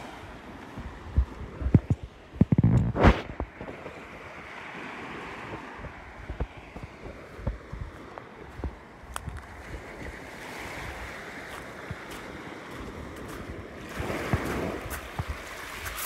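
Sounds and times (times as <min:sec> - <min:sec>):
small waves lapping on shore: 0:00.0 - 0:16.0
wind on microphone: 0:00.0 - 0:16.0.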